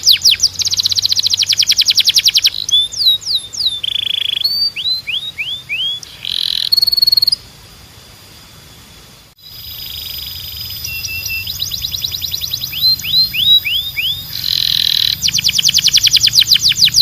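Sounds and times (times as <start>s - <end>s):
canary singing: 0.0s - 7.4s, 9.4s - 17.0s.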